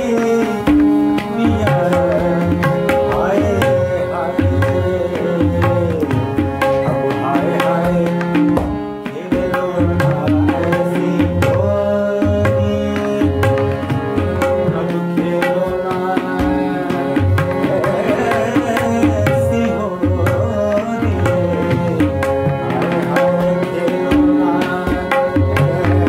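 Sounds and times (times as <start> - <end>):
harmonium held notes: 0.0 - 26.0
tabla strokes: 0.0 - 26.0.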